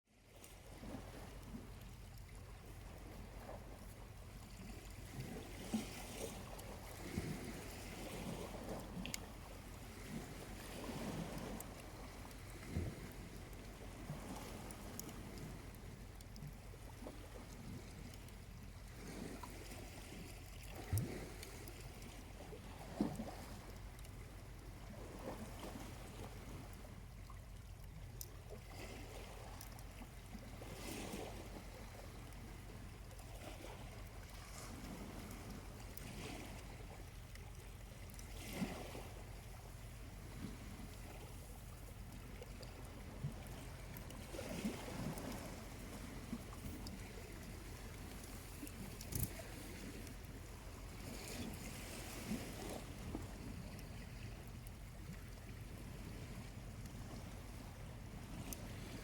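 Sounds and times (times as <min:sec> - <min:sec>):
small waves lapping on beach: 0:00.1 - 0:59.0.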